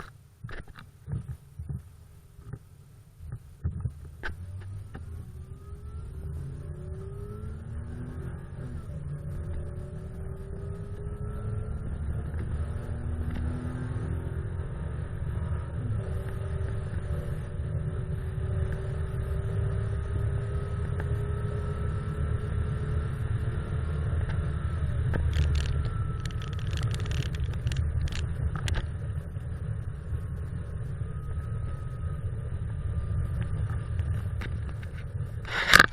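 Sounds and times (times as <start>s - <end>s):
road noise: 0.0s - 35.9s
car engine accelerating: 3.8s - 35.9s.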